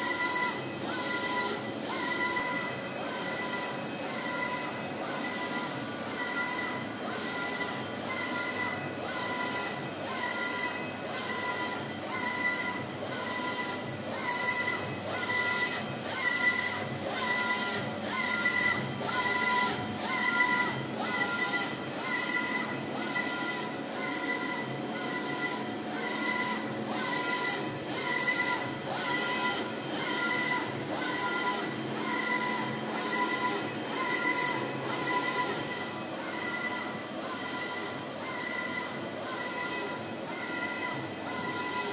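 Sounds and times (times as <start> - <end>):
printer running noise: 0.0 - 41.9.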